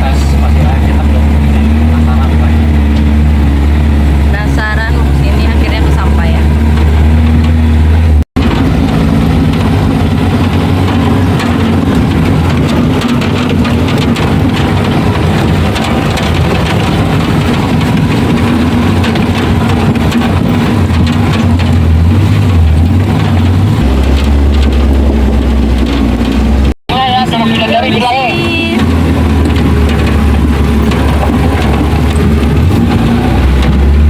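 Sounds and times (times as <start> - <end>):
off-road vehicle engine running: 0.0 - 34.0.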